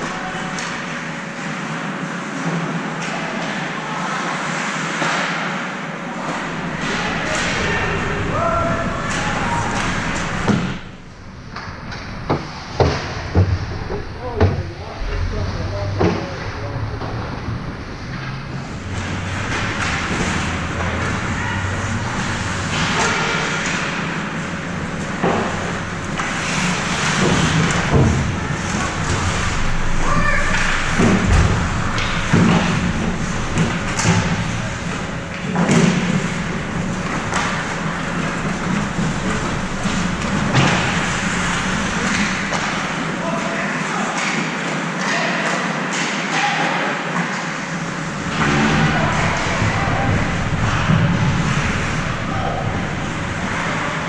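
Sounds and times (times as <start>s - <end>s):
rink and crowd noise: 0.0s - 54.0s
steady low hum: 6.0s - 43.2s, 47.7s - 54.0s.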